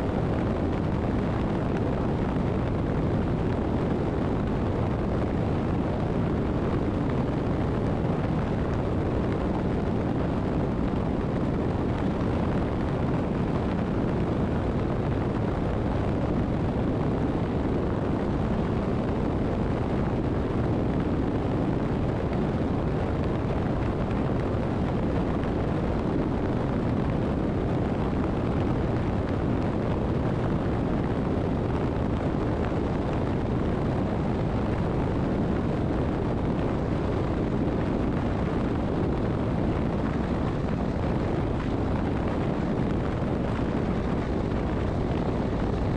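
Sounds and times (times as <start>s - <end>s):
motorcycle road noise: 0.0s - 45.9s
wind buffeting: 0.0s - 45.9s.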